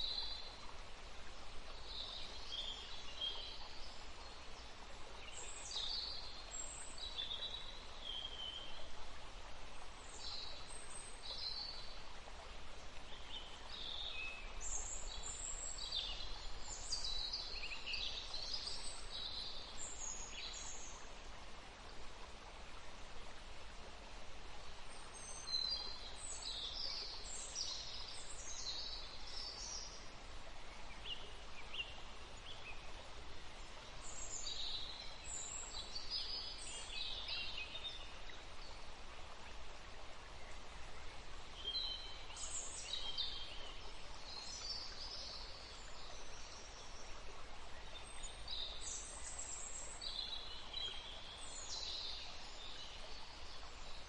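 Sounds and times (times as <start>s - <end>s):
forest stream running: 0.0s - 54.0s.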